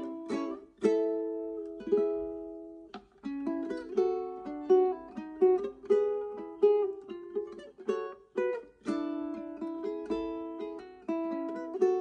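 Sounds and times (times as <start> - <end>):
ukulele fingerstyle playing: 0.0 - 12.0.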